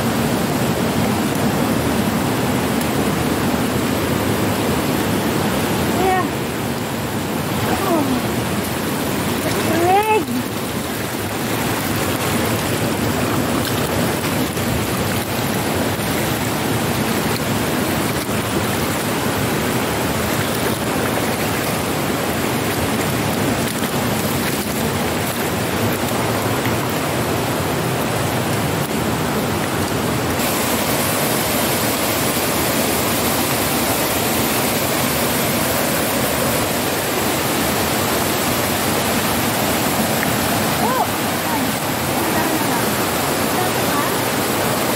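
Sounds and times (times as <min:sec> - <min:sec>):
rushing stream water: 0:00.0 - 0:44.9.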